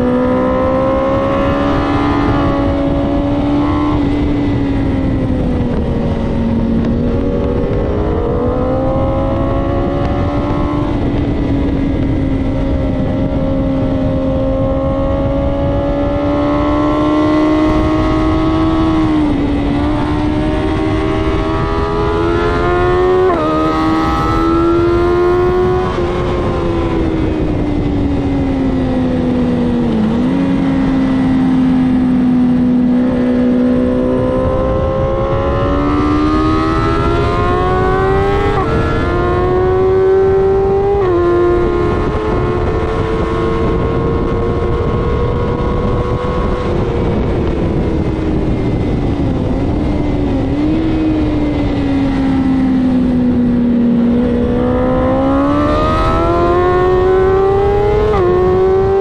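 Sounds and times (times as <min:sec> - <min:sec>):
heavy wind rush: 0:00.0 - 0:59.0
motorcycle engine revving: 0:00.0 - 0:59.0.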